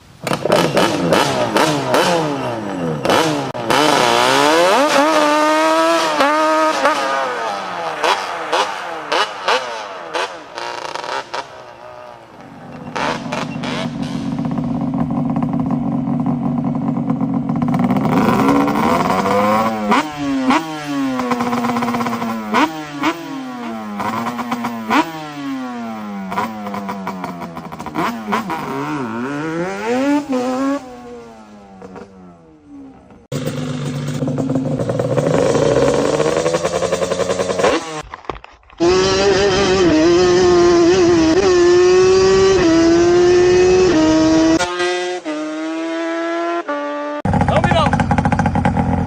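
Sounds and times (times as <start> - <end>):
two-stroke engine revving: 0.2 - 38.0, 38.8 - 49.0.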